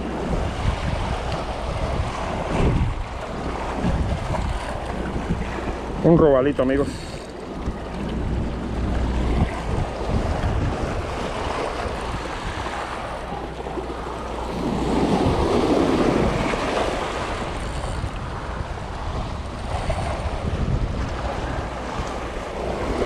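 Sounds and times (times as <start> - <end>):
waves breaking over rocks: 0.0 - 23.0
wind buffeting microphone: 0.0 - 23.0.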